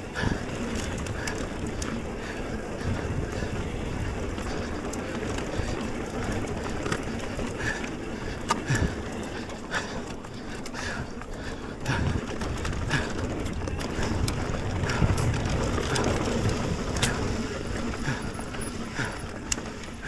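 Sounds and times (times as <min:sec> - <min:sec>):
wind noise: 0:00.0 - 0:09.8, 0:10.8 - 0:19.9
bike rattling and knocking: 0:00.0 - 0:20.0
bike tyre rumble: 0:00.0 - 0:20.0.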